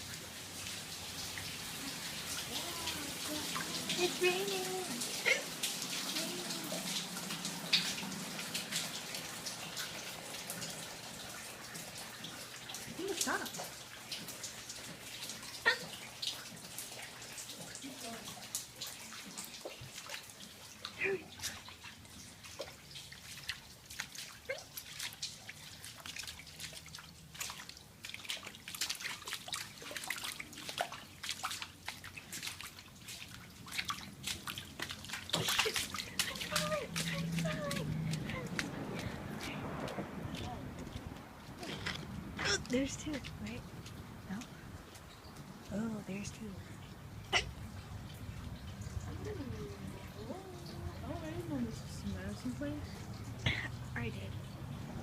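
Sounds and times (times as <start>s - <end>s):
water dripping and splashing indoors: 0.0s - 55.0s.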